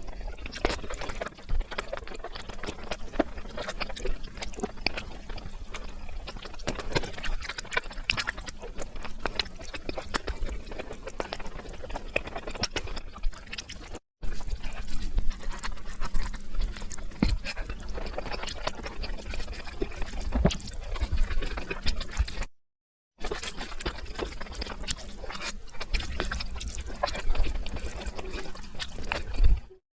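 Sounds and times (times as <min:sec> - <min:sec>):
rapid wet chewing: 0:00.0 - 0:22.6, 0:23.2 - 0:29.8.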